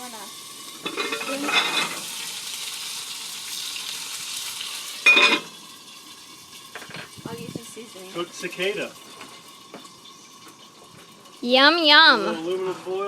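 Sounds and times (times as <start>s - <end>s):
frying in hot grease sizzle: 0.0s - 13.0s.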